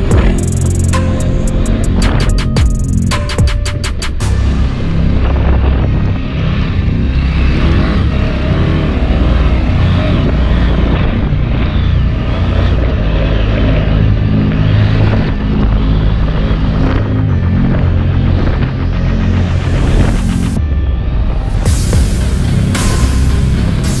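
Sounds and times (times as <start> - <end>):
motorcycle engine revving: 0.0 - 21.0, 21.6 - 24.0
wind rush: 0.0 - 24.0.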